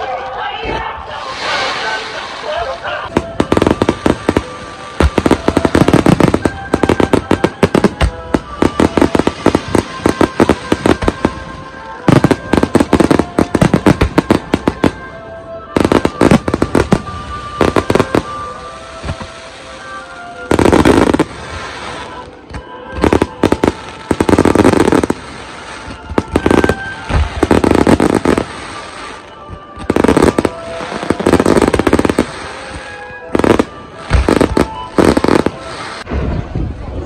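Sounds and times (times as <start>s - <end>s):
fireworks bursting: 1.2s - 15.1s, 15.8s - 36.4s.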